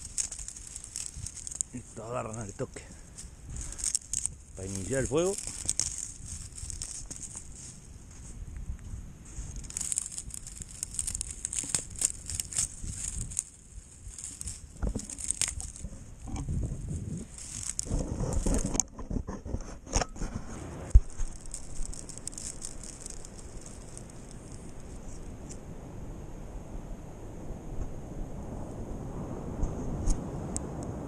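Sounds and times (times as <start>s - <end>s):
dry scrub rustling and snapping: 0.0s - 25.6s.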